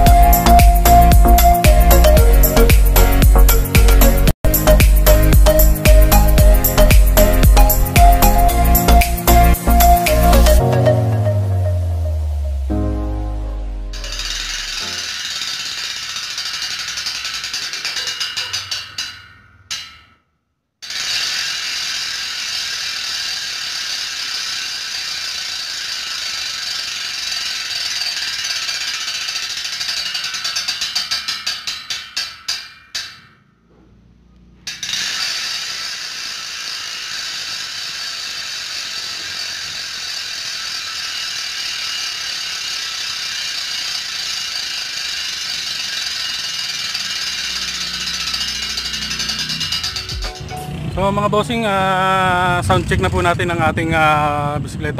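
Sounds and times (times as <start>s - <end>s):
bike hub freewheel clicking: 0.0s - 10.7s, 13.9s - 52.9s.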